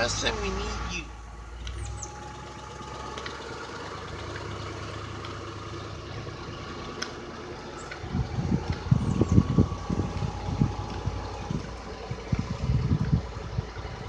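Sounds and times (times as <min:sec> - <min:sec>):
engine idling: 0:00.0 - 0:14.0
faint engine ticks: 0:00.0 - 0:14.0.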